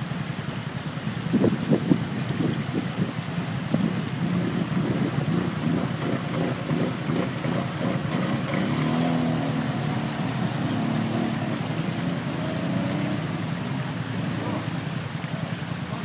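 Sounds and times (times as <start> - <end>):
atv engine running under throttle: 0.0 - 16.0
churning splashing water: 2.4 - 16.0.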